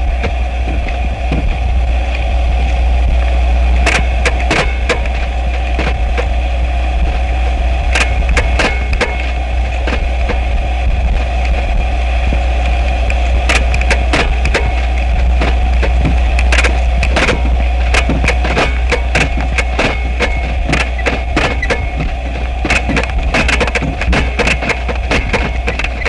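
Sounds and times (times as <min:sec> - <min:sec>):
low drone with held tones: 0:00.0 - 0:26.0
sharp clicks and crackles: 0:00.0 - 0:26.0.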